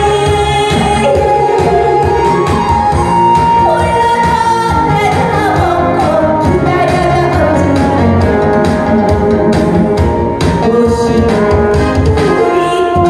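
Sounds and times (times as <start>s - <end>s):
backing music with steady beat: 0.0s - 13.0s
woman singing into a microphone: 0.0s - 13.0s.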